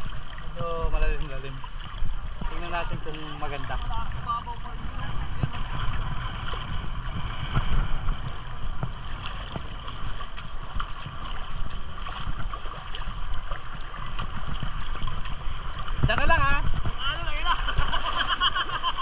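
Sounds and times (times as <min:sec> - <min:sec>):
sea water sloshing and lapping: 0:00.0 - 0:19.0
wind buffeting microphone: 0:00.0 - 0:19.0.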